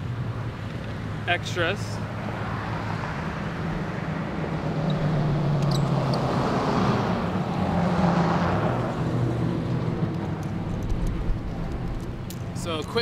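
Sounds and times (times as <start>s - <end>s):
vehicle driving past: 2.0s - 12.6s.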